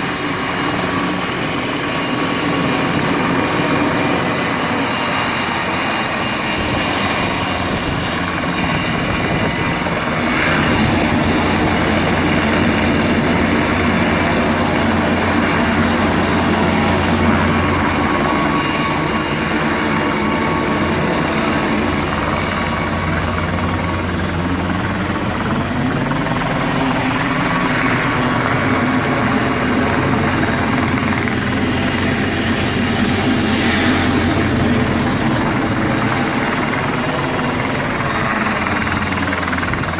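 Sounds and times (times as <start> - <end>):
helicopter rotor beat: 0.0 - 39.9
helicopter turbine whine: 0.0 - 39.9.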